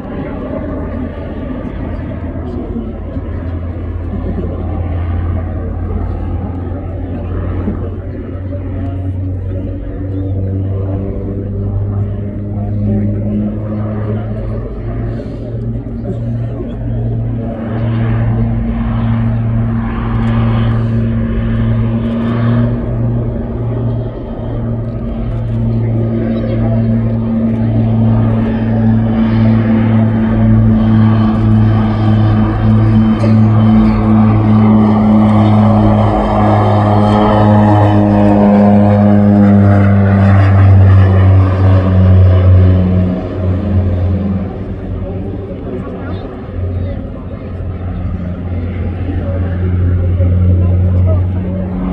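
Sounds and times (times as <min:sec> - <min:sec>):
turboprop aircraft droning overhead: 0:00.0 - 0:51.9.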